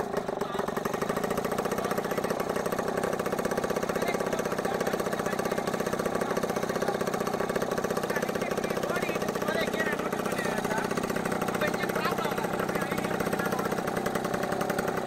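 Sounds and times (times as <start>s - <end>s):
small aircraft engine running: 0.0s - 15.0s.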